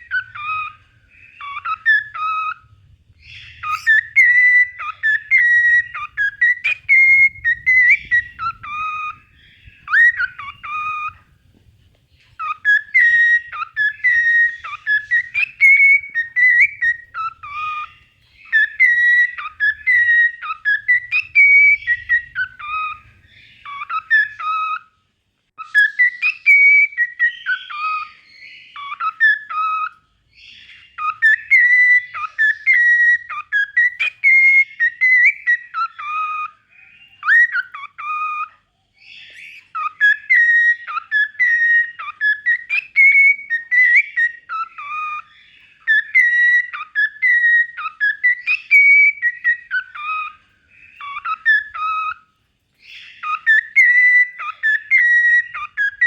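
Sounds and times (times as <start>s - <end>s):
cockatiel whistling: 0.0s - 24.9s, 25.6s - 56.0s.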